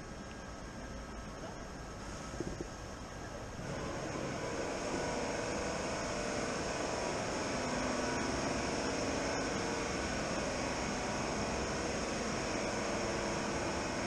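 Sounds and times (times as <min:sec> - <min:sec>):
mechanical drone: 0:00.6 - 0:14.0.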